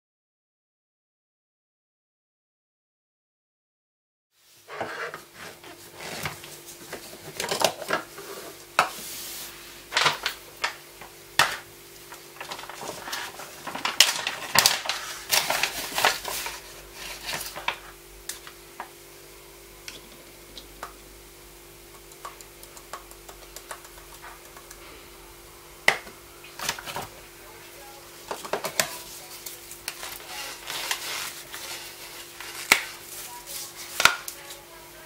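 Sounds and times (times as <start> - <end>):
faint steady hum: 4.4 - 35.0.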